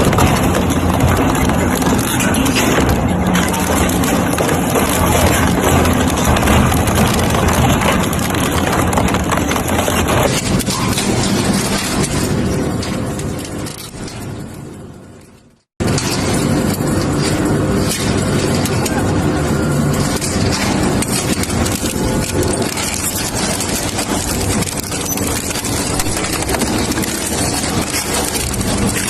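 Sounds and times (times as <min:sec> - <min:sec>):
crushing and knocking clatter: 0:00.0 - 0:29.0.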